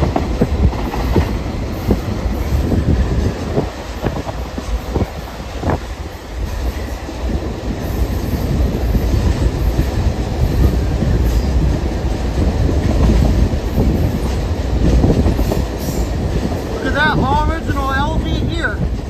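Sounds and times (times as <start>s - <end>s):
train wheels clacking on rail joints: 0.0s - 16.8s
train rumble: 0.0s - 19.0s.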